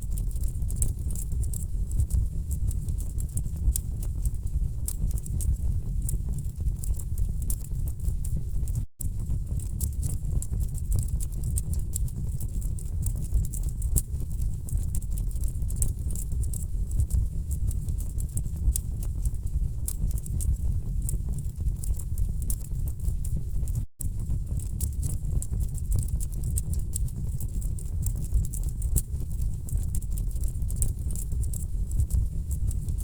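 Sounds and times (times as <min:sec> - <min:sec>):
low rumble of flames: 0:00.0 - 0:33.0.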